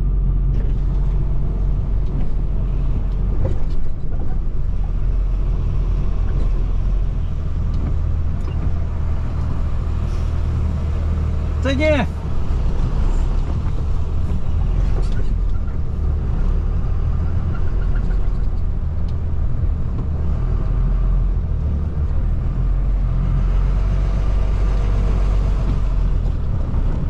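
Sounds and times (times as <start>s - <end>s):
road noise: 0.0s - 27.0s
truck engine drone: 0.0s - 27.0s.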